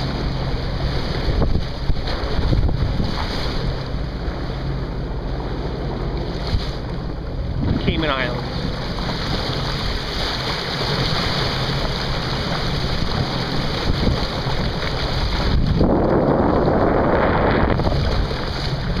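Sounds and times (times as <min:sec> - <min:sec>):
boat engine low rumble: 0:00.0 - 0:19.0
water rushing past hull: 0:00.0 - 0:19.0
wind buffeting microphone: 0:00.0 - 0:19.0.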